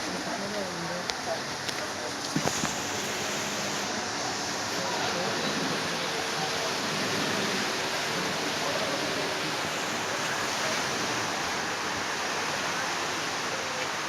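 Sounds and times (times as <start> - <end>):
sea surf breaking on a beach: 0.0 - 14.0.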